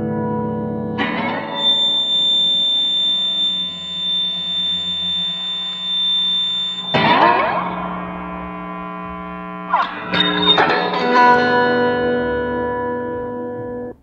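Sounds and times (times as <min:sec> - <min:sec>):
guitar feedback whistle: 0:00.0 - 0:13.9
guitar drone tones: 0:00.0 - 0:14.0
guitar string scraping: 0:01.0 - 0:12.3.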